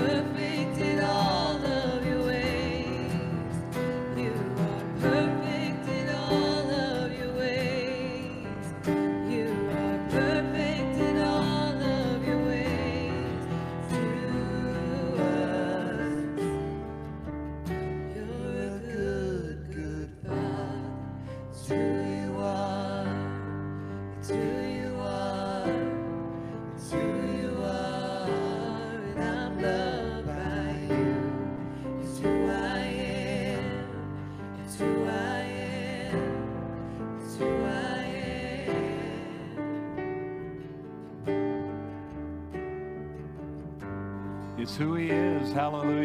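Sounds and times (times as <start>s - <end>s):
person singing with vibrato: 0.0s - 17.1s, 17.9s - 40.7s, 44.4s - 46.0s.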